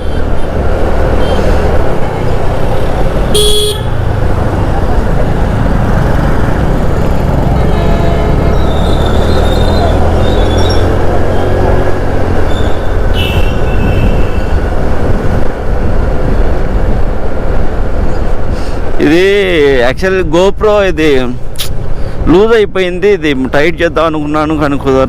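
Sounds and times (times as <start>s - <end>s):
wind rush on microphone: 0.0s - 22.7s
road traffic: 0.0s - 25.0s.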